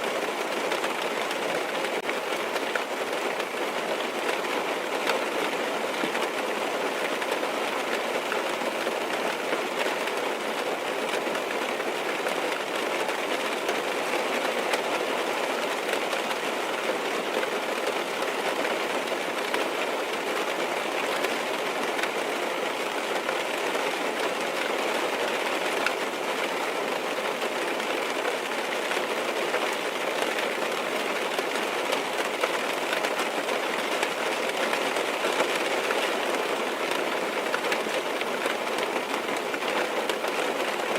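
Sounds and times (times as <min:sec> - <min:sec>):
heavy rain on car roof: 0:00.0 - 0:40.9.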